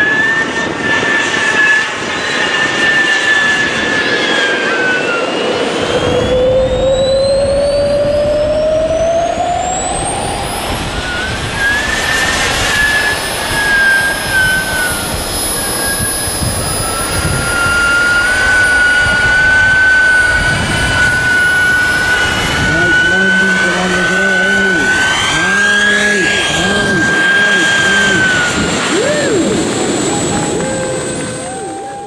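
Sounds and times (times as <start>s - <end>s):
model jet turbine whine: 0.0s - 32.0s.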